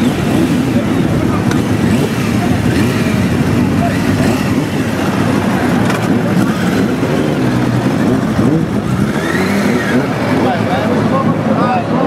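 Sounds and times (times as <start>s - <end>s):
crowd voices: 0.0s - 12.0s
motorcycle engines rumbling: 0.0s - 12.0s.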